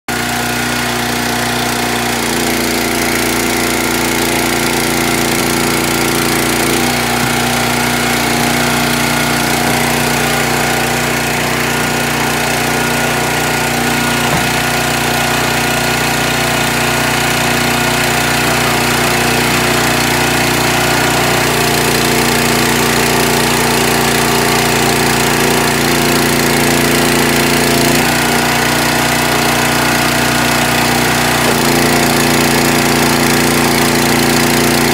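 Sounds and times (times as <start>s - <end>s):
small gasoline engine running: 0.1s - 34.9s.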